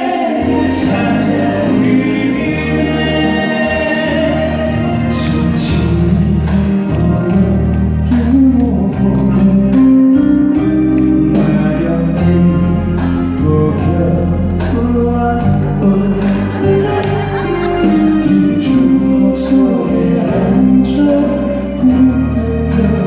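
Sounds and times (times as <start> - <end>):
guitar: 0.0 - 23.0
person singing: 0.0 - 23.0.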